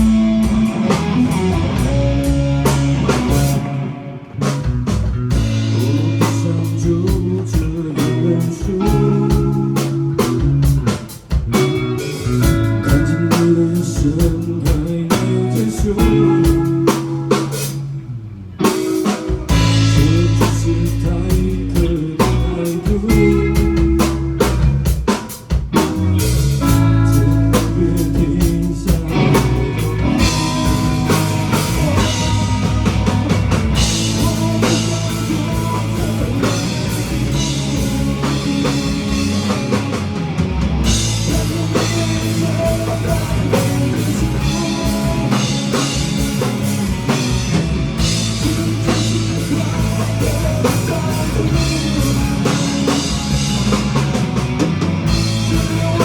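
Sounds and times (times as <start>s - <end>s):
drum kit: 0.0s - 18.0s, 18.6s - 56.0s
bass guitar: 0.0s - 56.0s
electric guitar: 0.0s - 56.0s.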